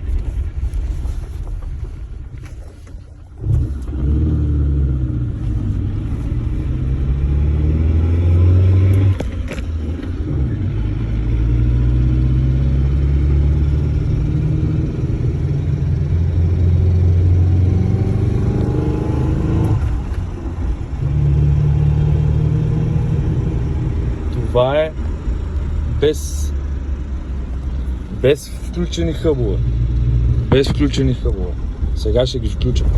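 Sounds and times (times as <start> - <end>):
car engine and drivetrain whine: 0.0 - 32.9.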